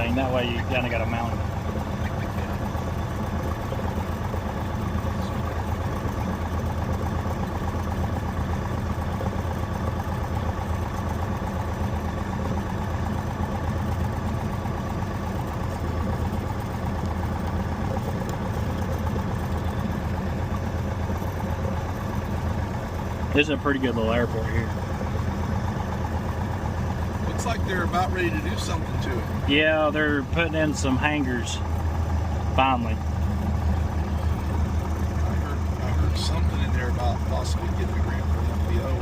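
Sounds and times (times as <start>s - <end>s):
airplane engine and propeller drone: 0.0s - 39.0s.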